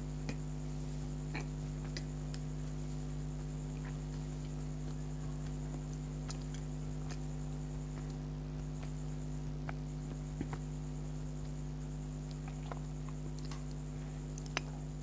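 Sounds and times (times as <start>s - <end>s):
electrical hum: 0.0s - 15.0s
faint high whine: 0.0s - 15.0s.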